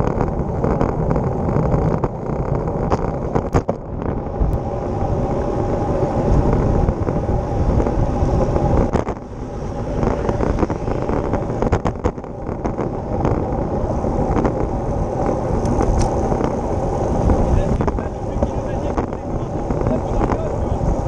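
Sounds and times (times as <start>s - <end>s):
tyres humming on asphalt: 0.0s - 21.0s
wind buffeting microphone: 0.0s - 21.0s.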